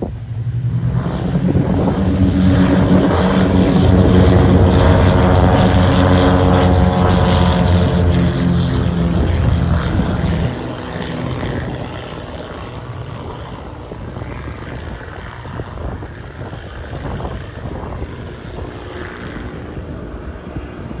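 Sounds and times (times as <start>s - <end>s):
rushing noise of plane climbing: 0.0s - 21.0s
turboprop engines and propellers: 0.0s - 21.0s.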